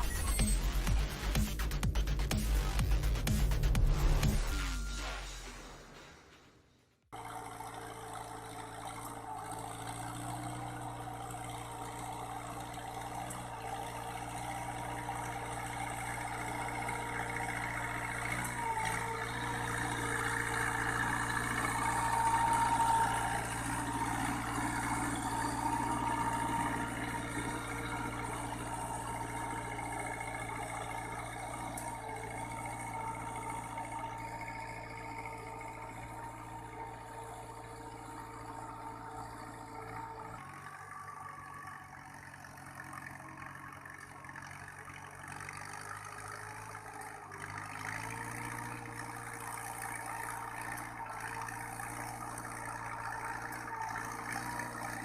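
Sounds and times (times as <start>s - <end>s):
farm machine engine whining: 0.0s - 5.7s, 7.2s - 55.0s.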